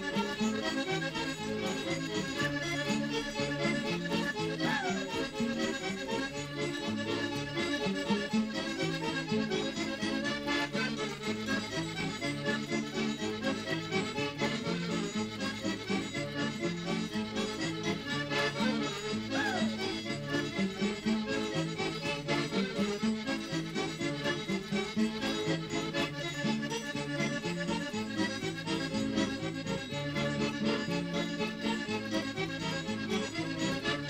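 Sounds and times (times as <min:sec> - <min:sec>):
accordion folk dance music: 0:00.0 - 0:34.0.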